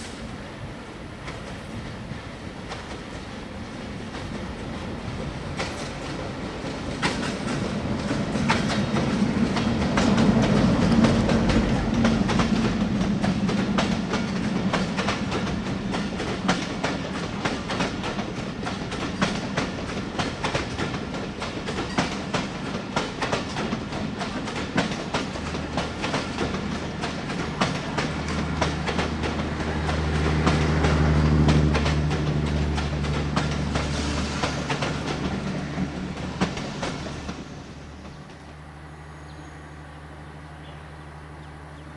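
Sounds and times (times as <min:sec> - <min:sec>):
diesel locomotive engine hum: 0:00.0 - 0:41.9
train wheels clickety-clack: 0:01.2 - 0:38.6.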